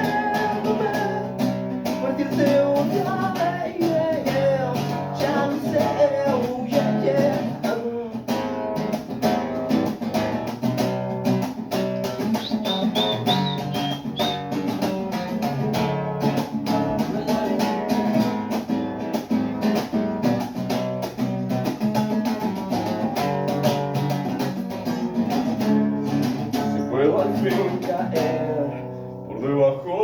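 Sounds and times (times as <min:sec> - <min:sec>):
acoustic guitar strumming: 0:00.0 - 0:29.8.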